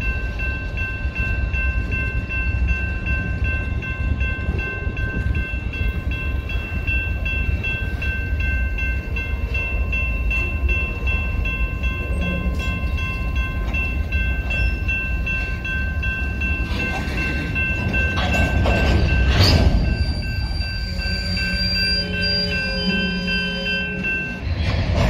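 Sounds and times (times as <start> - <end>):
high ringing tones: 0.0 - 24.8
train wheels rumbling on rail: 0.0 - 25.0.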